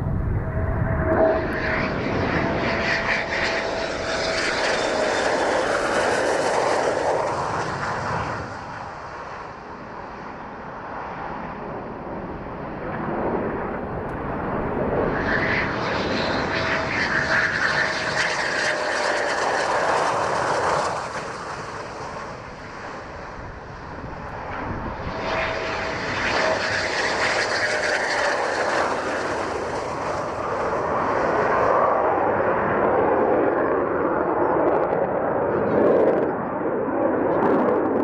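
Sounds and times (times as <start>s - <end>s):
military jets passing: 0.0s - 38.0s.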